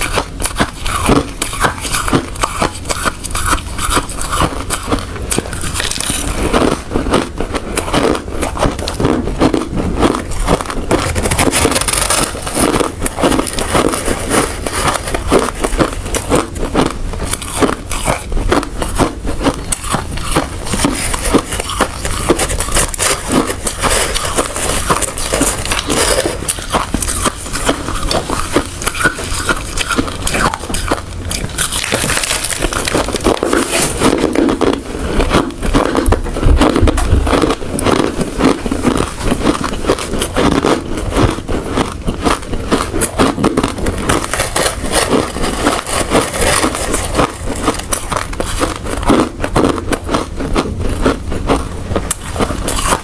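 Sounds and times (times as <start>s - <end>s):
ice crunching between teeth: 0.0s - 53.0s.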